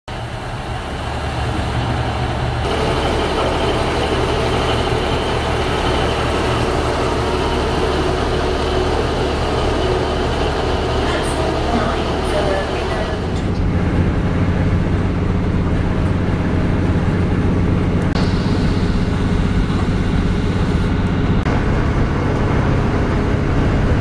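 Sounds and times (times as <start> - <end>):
diesel engines idling: 0.1 - 24.0.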